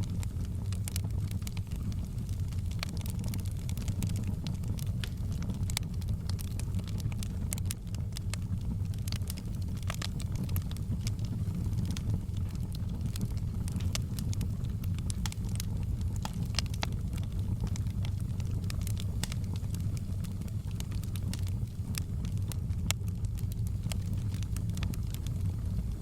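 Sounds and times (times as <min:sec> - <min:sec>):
fire crackling and popping: 0:00.0 - 0:26.0
low rumble of flames: 0:00.0 - 0:26.0.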